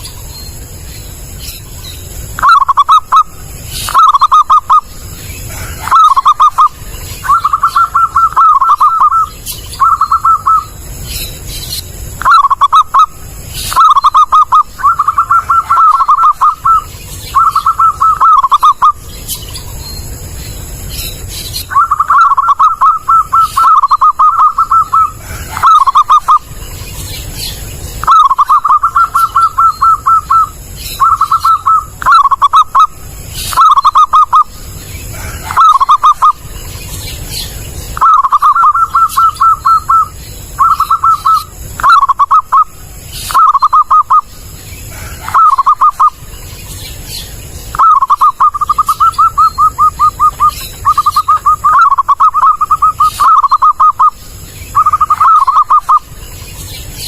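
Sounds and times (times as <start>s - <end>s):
dove cooing: 2.3s - 10.8s, 12.2s - 19.1s, 21.6s - 26.8s, 27.4s - 36.6s, 38.0s - 46.3s, 47.7s - 56.2s.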